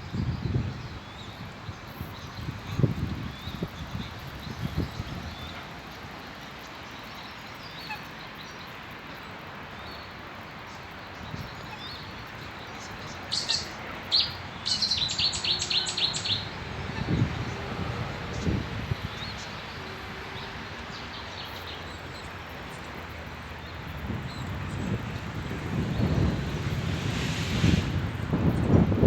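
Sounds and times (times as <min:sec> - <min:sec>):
small birds chirping: 0:00.2 - 0:26.8.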